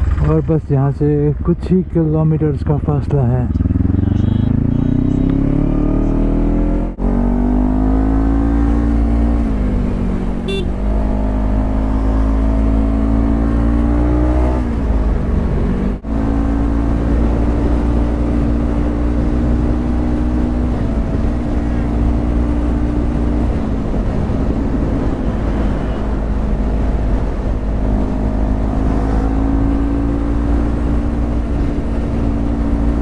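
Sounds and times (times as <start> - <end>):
motorcycle accelerating: 2.6 - 33.0.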